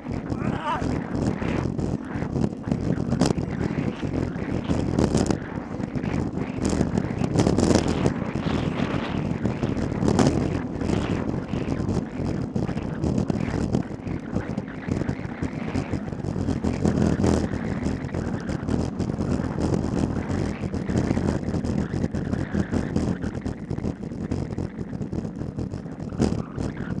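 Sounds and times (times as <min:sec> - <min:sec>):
wind rushing over microphone: 0:00.0 - 0:27.0.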